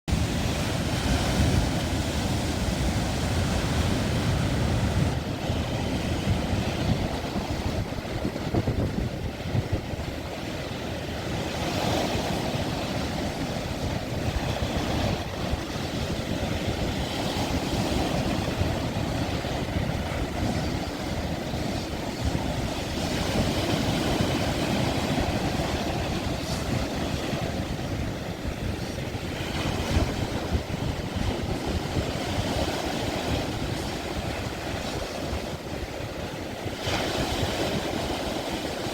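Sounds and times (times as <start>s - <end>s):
ocean waves breaking: 0.1s - 38.9s
wind rumbling on microphone: 0.1s - 38.9s.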